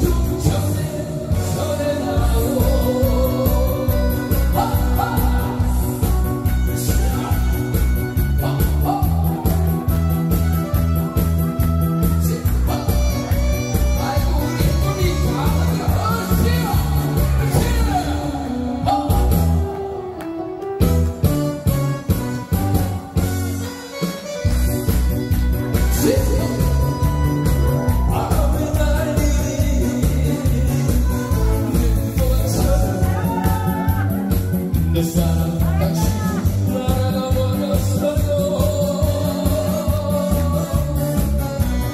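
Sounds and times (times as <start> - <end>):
person singing: 0.0 - 20.9, 25.5 - 41.9
backing track with thumping beat: 0.0 - 41.9
upbeat music with heavy bass: 0.0 - 41.9.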